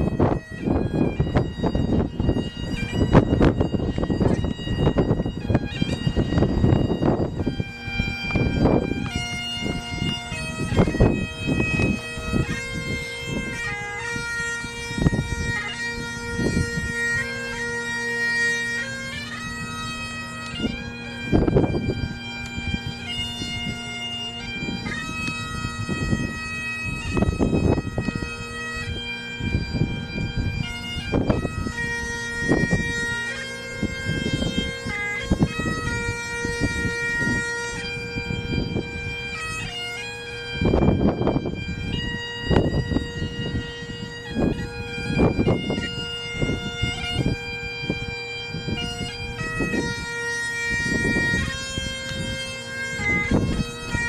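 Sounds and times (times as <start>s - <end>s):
bagpipes playing a tune: 0.0s - 54.0s
wind rumble on microphone: 0.0s - 54.0s.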